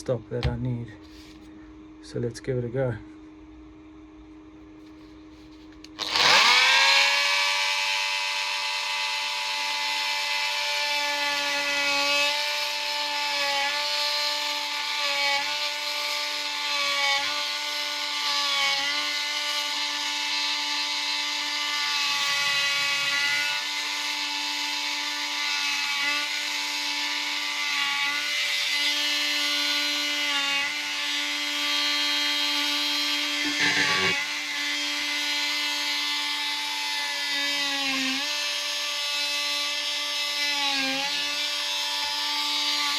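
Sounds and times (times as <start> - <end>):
multi-tool buzzing whine: 4.2 - 42.9.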